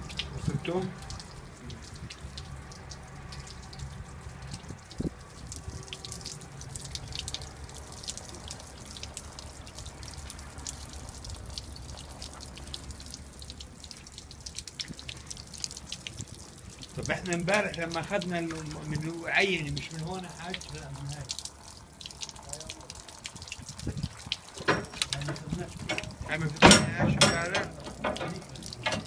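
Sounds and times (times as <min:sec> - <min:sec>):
low steady hum: 0:00.0 - 0:29.0
water dripping and splashing: 0:00.0 - 0:29.0.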